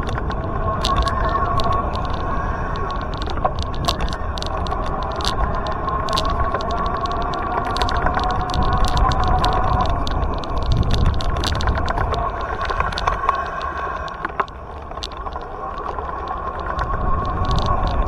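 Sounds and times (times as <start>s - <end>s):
wind and road vibration rumble: 0.0s - 18.0s.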